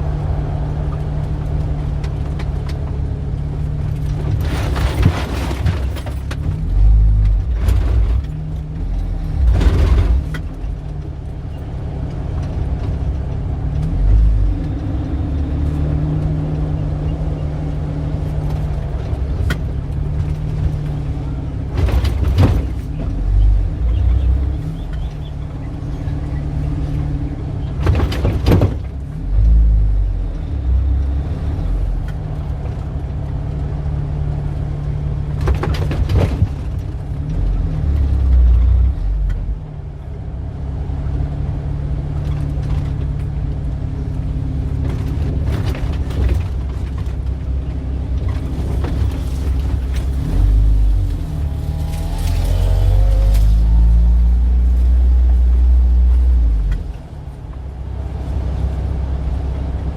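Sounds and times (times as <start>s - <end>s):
traffic engine hum: 0.0s - 59.9s
vehicles passing: 0.0s - 59.9s.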